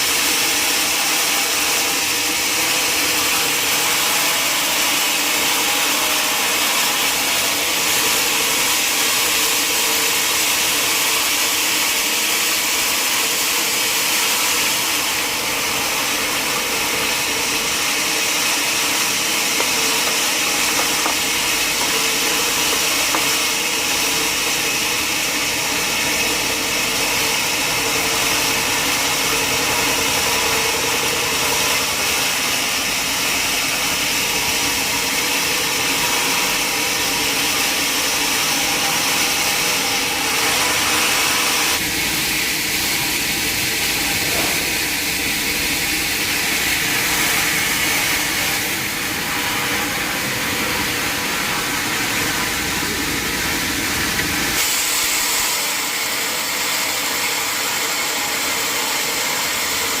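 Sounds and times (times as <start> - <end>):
sawmill saw cutting timber: 0.0 - 60.0.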